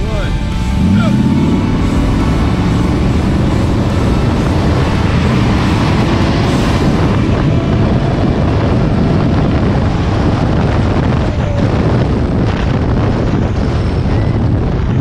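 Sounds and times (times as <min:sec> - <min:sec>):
vehicle engine running loud: 0:00.0 - 0:15.0
wind buffeting microphone: 0:00.0 - 0:15.0.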